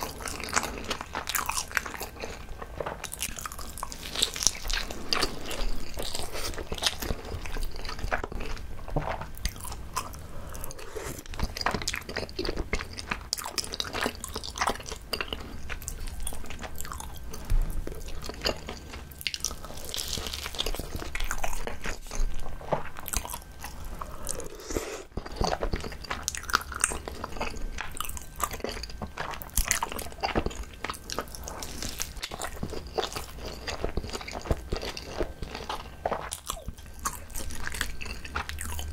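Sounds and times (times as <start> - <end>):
close chewing with wet mouth clicks: 0.0 - 8.6, 9.4 - 38.9.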